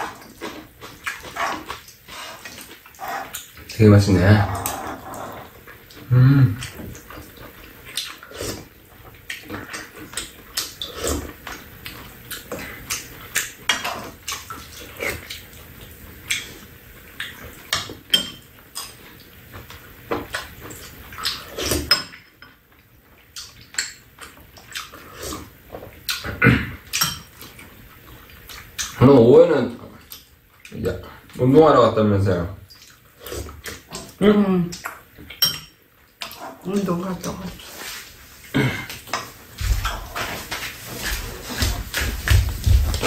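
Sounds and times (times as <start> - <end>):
chewing and lip-smacking: 0.0 - 3.8, 4.5 - 17.8, 18.7 - 21.8, 22.7 - 26.3, 26.9 - 29.0, 32.7 - 35.4, 36.1 - 43.0.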